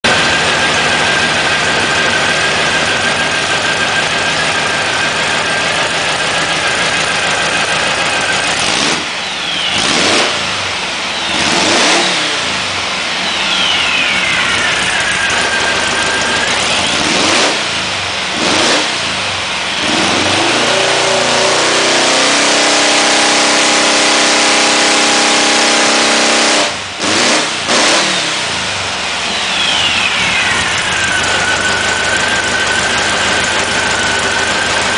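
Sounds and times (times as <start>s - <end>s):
dune buggy engine revving: 0.0s - 34.9s.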